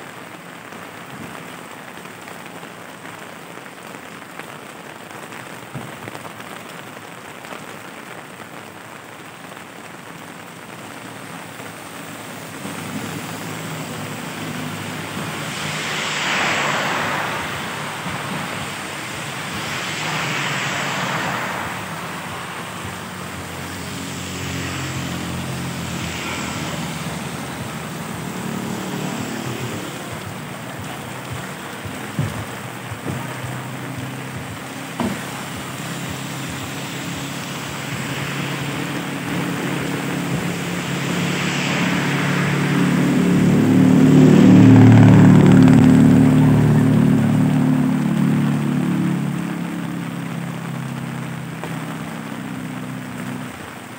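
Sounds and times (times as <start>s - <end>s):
rain falling on pavement: 0.0s - 53.9s
tyres hissing on wet road: 0.0s - 53.9s
engine hum: 10.5s - 53.9s.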